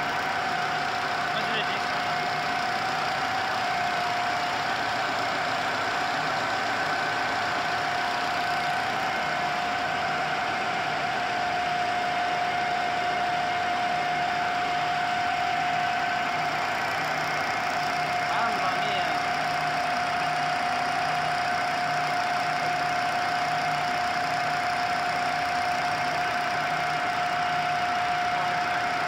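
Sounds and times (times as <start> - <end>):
printing press mechanical hum: 0.0 - 29.0.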